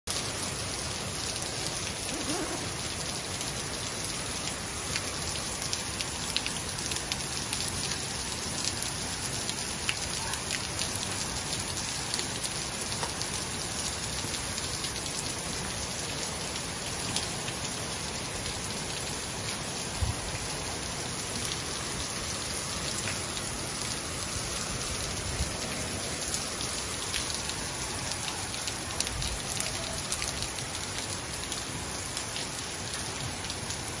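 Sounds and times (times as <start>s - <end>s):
heavy rain on paving: 0.0s - 34.0s.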